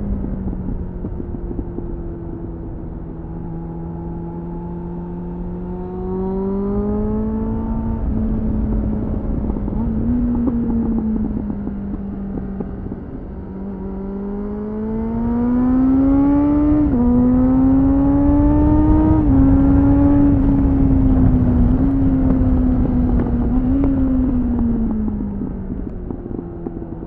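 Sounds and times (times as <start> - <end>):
motorcycle engine accelerating: 0.0 - 27.0
wind rushing over microphone: 0.0 - 27.0.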